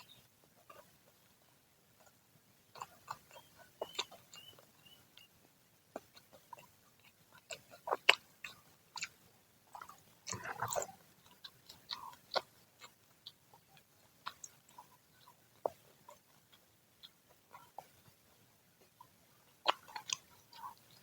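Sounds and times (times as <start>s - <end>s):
chewing and biting fried food: 0.0s - 21.0s.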